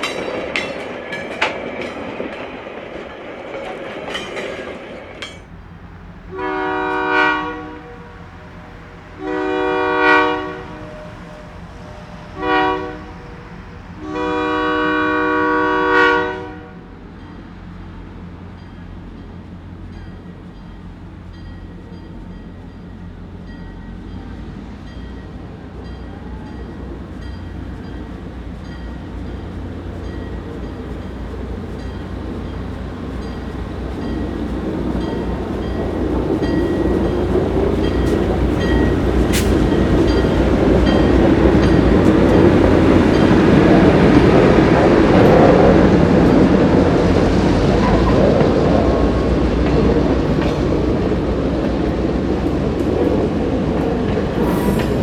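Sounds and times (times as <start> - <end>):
train engine rumble: 0.0 - 55.0
train wheels on rails: 0.0 - 55.0.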